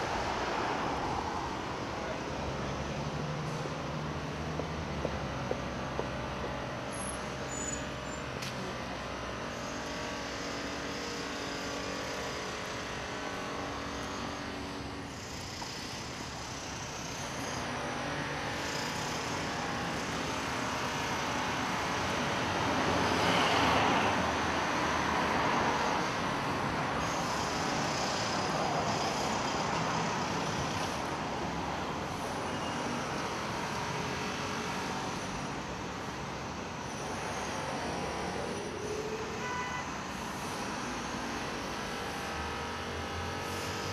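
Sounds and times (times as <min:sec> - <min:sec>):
cars on the road: 0:00.0 - 0:43.9.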